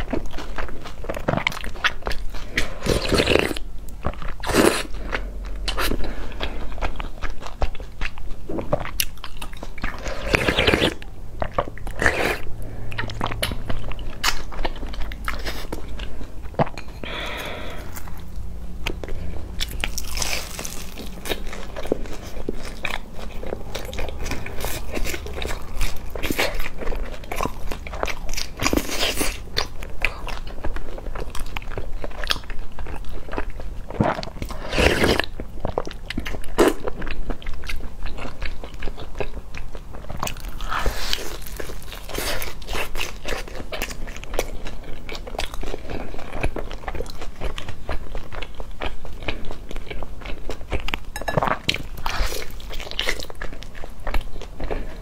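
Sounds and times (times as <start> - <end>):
crunchy biting and chewing: 0.0 - 55.0.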